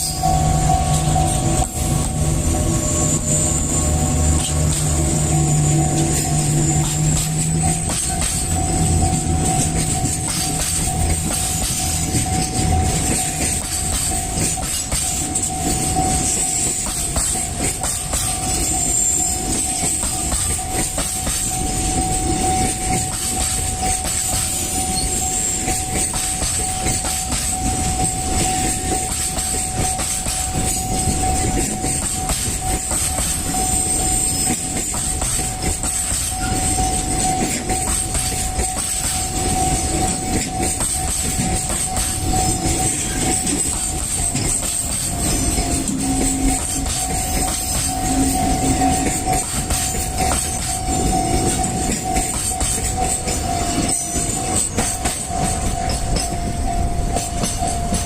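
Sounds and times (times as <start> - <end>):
level crossing bell ringing: 0.0 - 58.0
train wheels clacking: 0.0 - 58.0.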